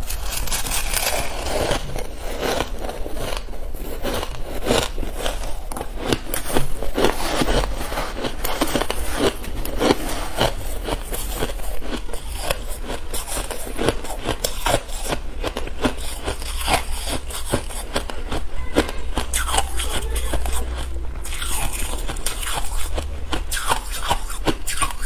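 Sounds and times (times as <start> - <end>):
shaved ice crunching: 0.0 - 25.0.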